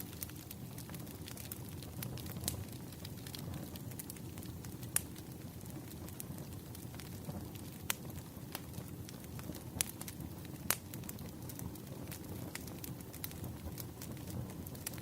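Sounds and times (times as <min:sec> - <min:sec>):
bonfire crackling: 0:00.0 - 0:15.0
fire popping: 0:00.0 - 0:15.0.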